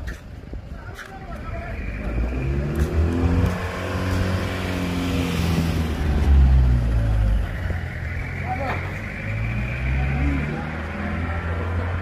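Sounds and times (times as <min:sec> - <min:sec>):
vehicle engine passing by: 0:02.0 - 0:12.0.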